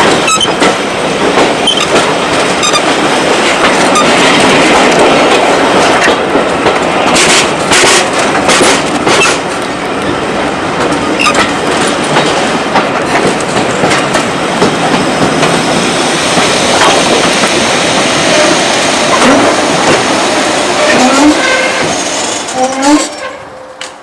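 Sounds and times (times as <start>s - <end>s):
train carriages rumbling: 0.0s - 24.0s
wheels clicking over rail joints: 0.0s - 24.0s.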